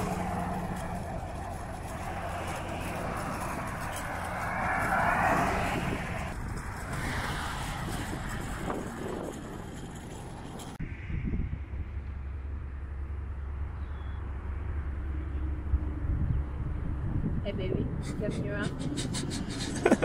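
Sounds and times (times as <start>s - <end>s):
vehicle passing on road: 0.0s - 20.0s.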